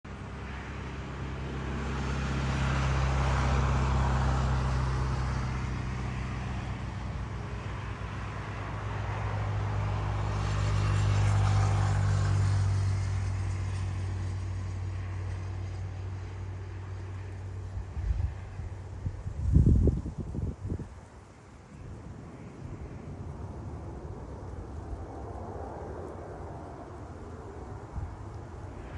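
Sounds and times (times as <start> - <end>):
jet engines on landing: 0.1 - 28.9.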